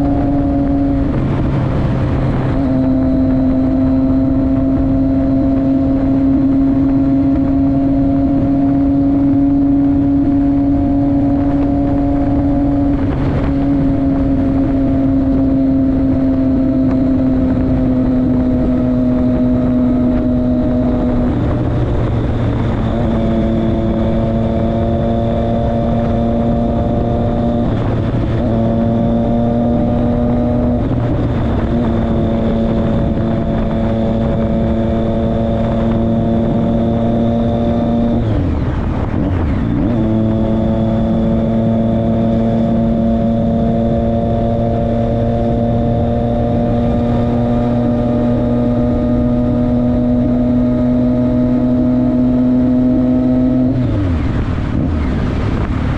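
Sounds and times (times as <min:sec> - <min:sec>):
motorcycle engine cruising: 0:00.0 - 0:55.9.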